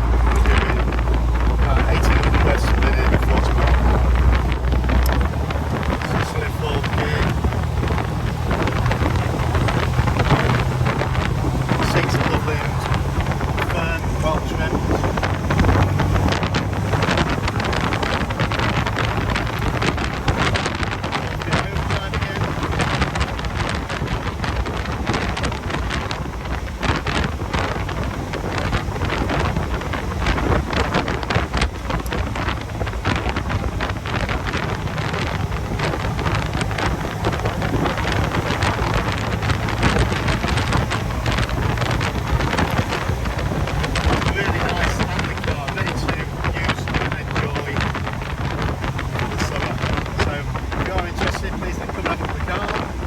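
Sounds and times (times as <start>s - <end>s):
car engine running steadily: 0.0s - 53.0s
wind buffeting microphone: 0.0s - 53.0s.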